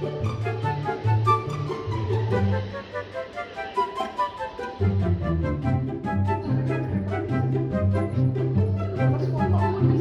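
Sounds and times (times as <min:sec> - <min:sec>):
light bouncy background music: 0:00.0 - 0:10.0.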